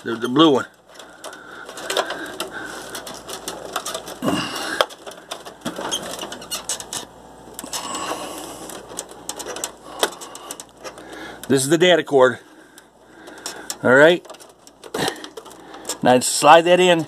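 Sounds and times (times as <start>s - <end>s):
hand rummaging among cables: 0.0s - 17.0s.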